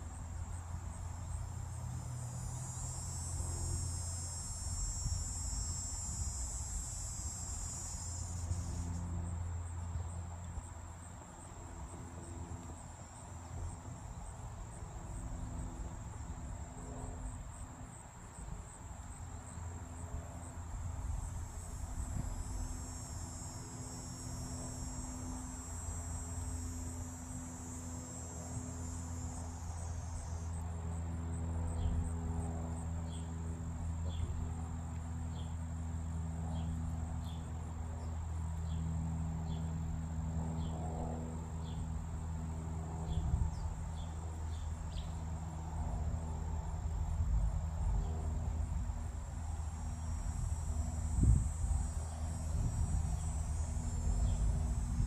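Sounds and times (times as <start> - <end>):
insects trilling: 0.0 - 55.0
steady low hum: 0.0 - 55.0.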